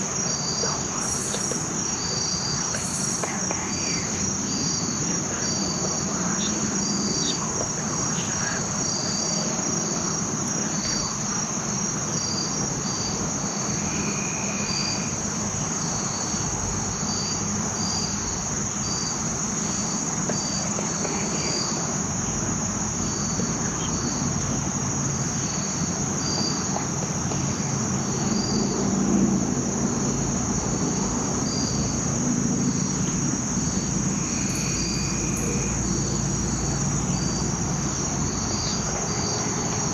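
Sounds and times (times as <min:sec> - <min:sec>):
insect chirps: 0:00.0 - 0:39.9
insects droning: 0:00.0 - 0:39.9.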